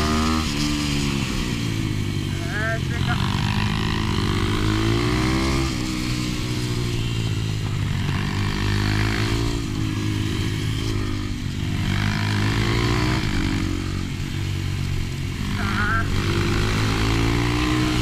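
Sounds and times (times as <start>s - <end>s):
pit bike engine revving: 0.0s - 18.0s.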